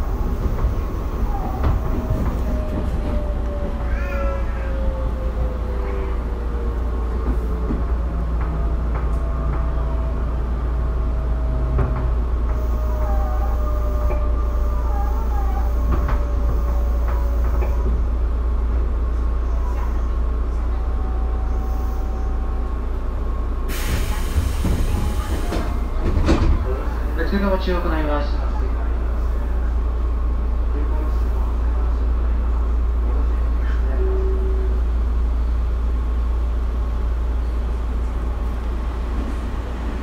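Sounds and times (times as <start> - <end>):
passing train rushing: 0.0 - 40.0.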